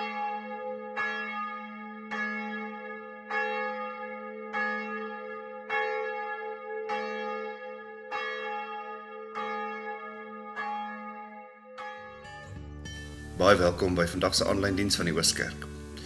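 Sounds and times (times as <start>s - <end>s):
church bell tolling: 0.0s - 16.0s.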